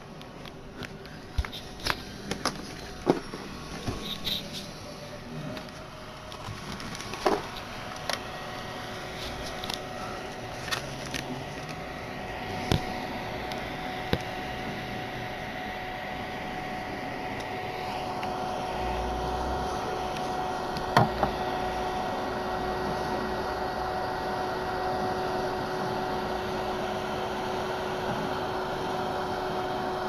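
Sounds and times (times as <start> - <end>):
cooling fan whirring: 0.0 - 30.0
mini fridge humming: 0.0 - 30.0.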